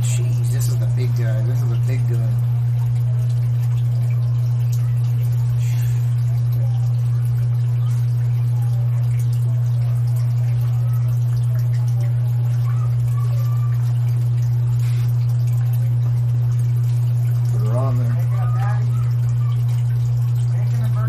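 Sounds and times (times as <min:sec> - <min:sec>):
loud steady low hum: 0:00.0 - 0:21.0.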